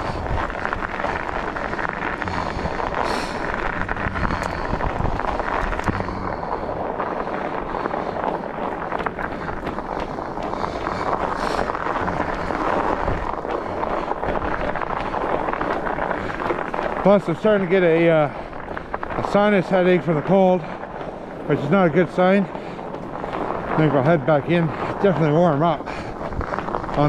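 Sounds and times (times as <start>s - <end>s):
tyres rolling over snow: 0.0s - 27.0s
wind on microphone: 0.0s - 27.0s.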